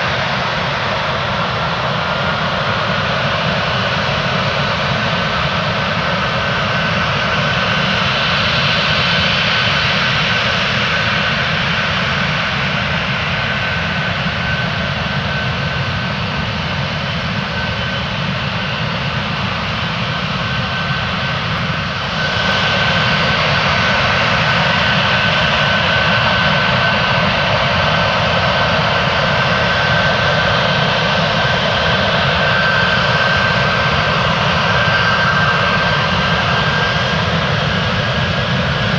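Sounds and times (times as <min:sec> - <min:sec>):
jet engines with high whine: 0:00.0 - 0:38.9.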